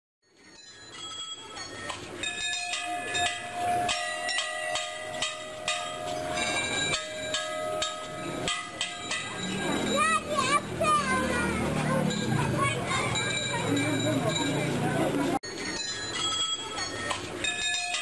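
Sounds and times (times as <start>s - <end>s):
temple bells ringing: 0.4s - 18.0s.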